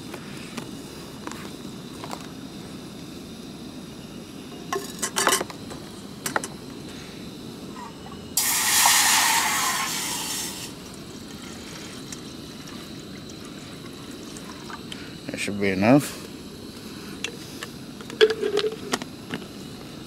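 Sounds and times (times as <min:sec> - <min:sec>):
loud hiss: 0:00.0 - 0:20.0.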